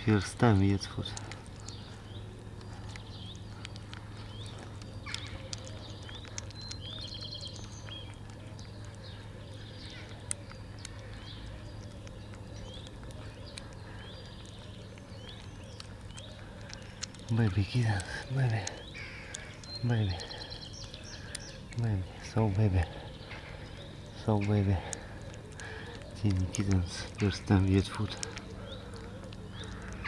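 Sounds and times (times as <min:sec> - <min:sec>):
kittens chewing and lapping food: 0:00.0 - 0:30.0
steady low hum: 0:00.0 - 0:30.0.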